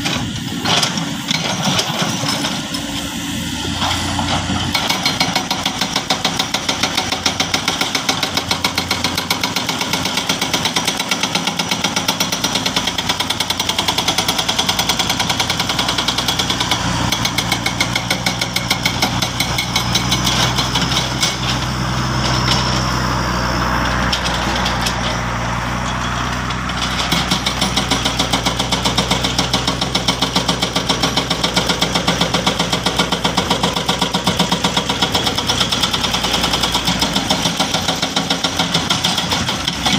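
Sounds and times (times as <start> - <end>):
diesel engine clattering: 0.0 - 39.9.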